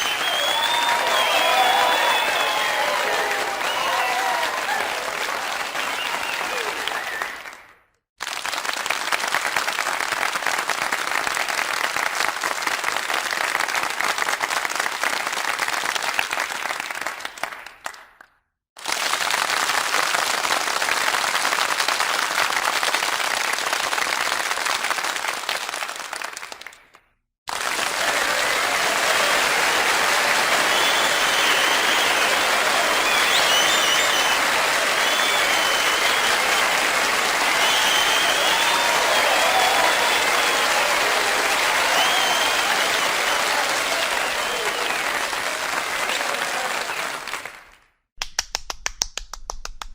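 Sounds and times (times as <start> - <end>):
crowd applause: 0.0 - 18.0, 18.8 - 26.8, 27.5 - 47.8.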